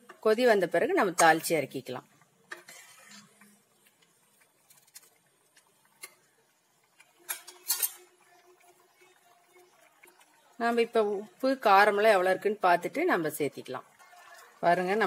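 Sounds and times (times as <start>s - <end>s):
thick gravy boiling with bubbles popping: 0.0s - 15.0s.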